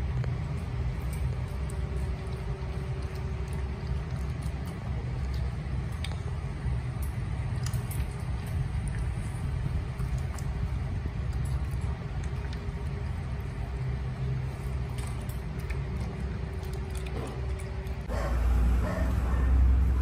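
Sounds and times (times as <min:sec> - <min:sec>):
dog eating from steel bowl: 0:00.0 - 0:20.0
steady low rumble: 0:00.0 - 0:20.0.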